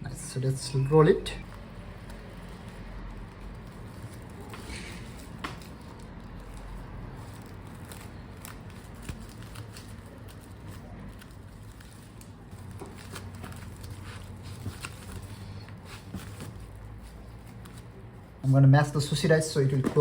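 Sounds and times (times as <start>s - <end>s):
bamboo mat rolling sounds: 0.8s - 20.0s.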